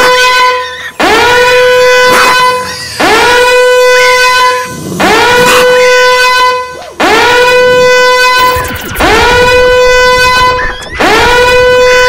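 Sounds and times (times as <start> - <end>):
loud horn blasts: 0.0 - 12.0.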